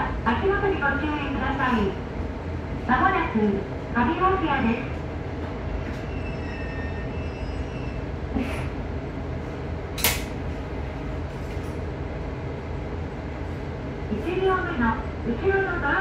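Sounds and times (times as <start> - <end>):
railcar engine and wheels rumbling: 0.0 - 16.0.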